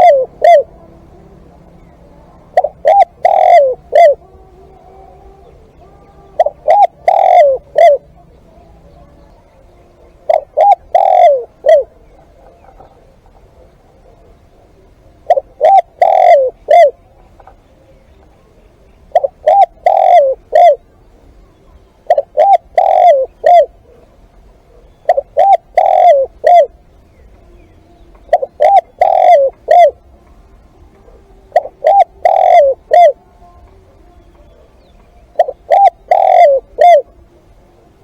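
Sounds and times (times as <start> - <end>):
dove cooing: 0.0 - 38.0.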